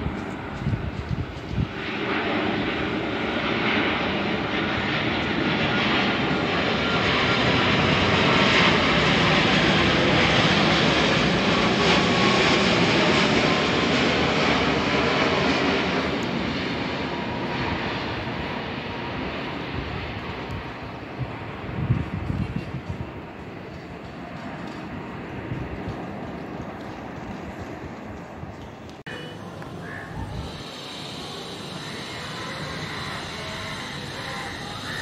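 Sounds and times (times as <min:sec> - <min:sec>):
faint engine whine: 0:00.0 - 0:35.0
jet engine rumble and rush: 0:00.0 - 0:35.0.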